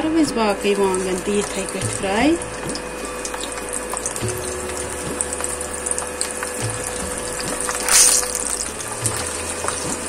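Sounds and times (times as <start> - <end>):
eggplant sizzling in hot oil: 0.0 - 10.0.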